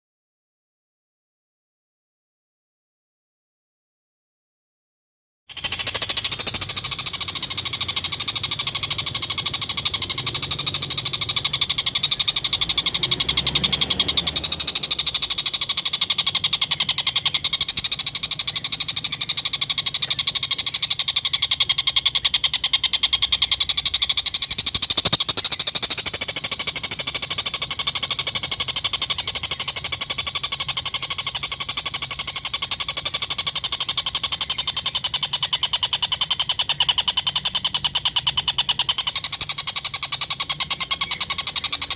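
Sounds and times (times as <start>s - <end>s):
kingfisher rattling chatter: 5.5s - 41.9s.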